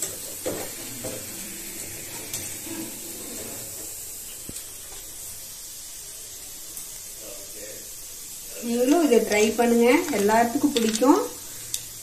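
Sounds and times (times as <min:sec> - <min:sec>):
steady soft hiss: 0:00.0 - 0:12.0.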